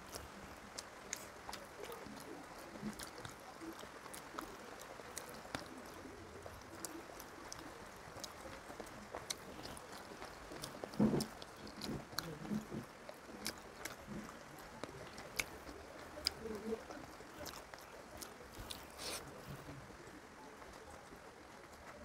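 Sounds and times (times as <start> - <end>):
fingers mixing food on steel plate: 0.0 - 19.7
chewing clicks and smacks: 0.0 - 22.0.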